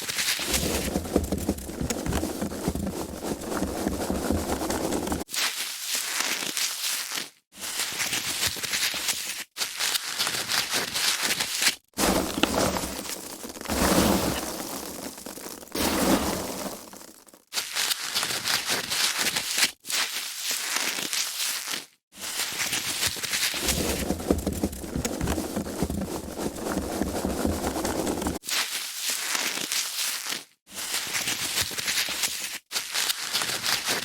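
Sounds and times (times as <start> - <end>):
foam packaging being squeezed: 0.0 - 34.0.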